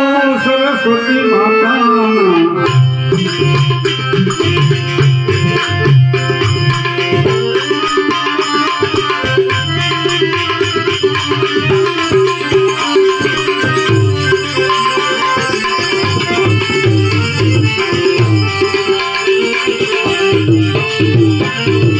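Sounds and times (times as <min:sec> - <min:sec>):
held melody notes: 0:00.0 - 0:21.9
tabla: 0:00.0 - 0:21.9
rattling hand percussion: 0:02.6 - 0:21.9.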